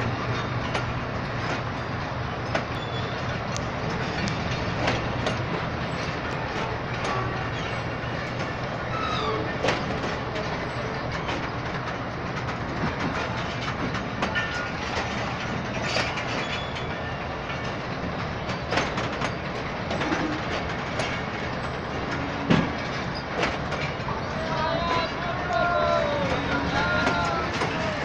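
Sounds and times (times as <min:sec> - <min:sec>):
train clank: 0:00.0 - 0:28.0
train coaches rumbling past: 0:00.0 - 0:28.0
wheels clicking over rail joints: 0:00.0 - 0:28.0.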